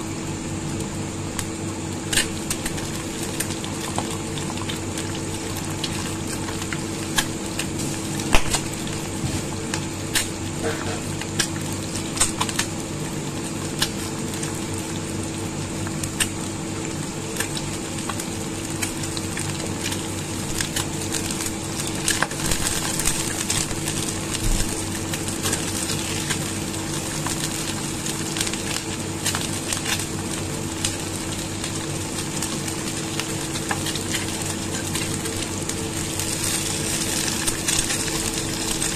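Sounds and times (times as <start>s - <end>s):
eggs sizzling in oil: 0.7s - 38.9s.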